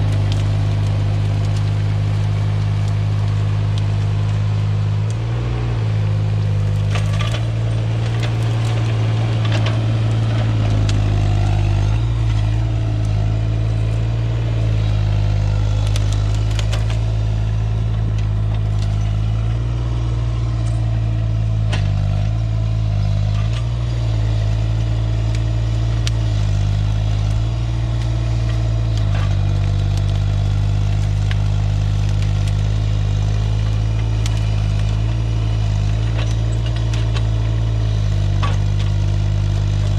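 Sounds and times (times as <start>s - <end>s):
diesel engine running under load: 0.0s - 39.9s
wood and brush cracking: 0.0s - 39.9s.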